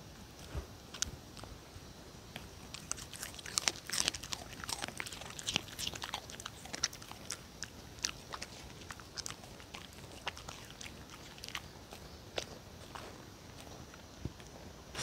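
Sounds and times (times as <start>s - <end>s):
dog chewing crunches: 2.3s - 15.0s.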